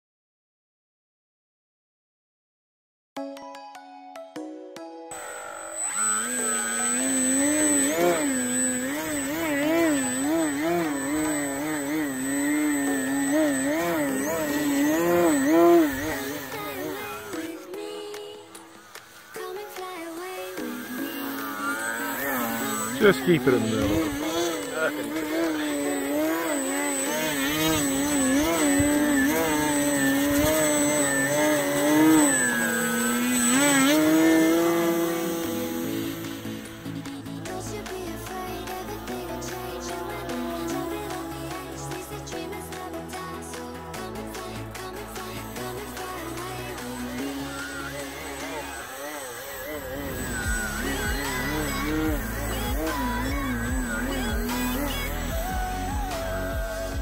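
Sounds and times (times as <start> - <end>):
electric motor and propeller buzzing: 5.1 - 57.0.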